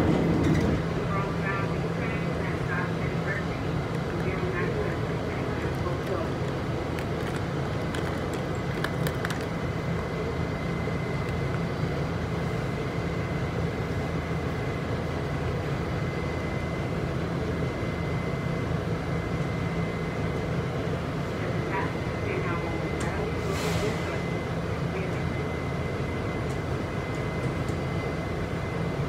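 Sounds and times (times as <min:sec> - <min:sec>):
subway car rumbling: 0:00.0 - 0:29.0.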